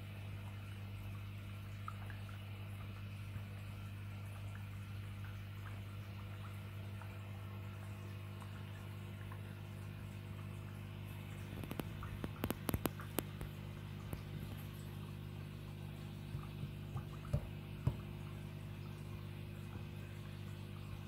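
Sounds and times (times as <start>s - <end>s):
aquarium pump humming: 0.0s - 21.0s
water dripping and splashing: 0.4s - 21.0s.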